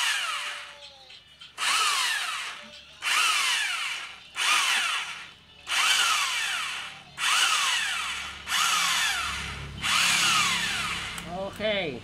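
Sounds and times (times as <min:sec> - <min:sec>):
electric drill boring through steel: 0:00.0 - 0:00.8, 0:01.5 - 0:11.4.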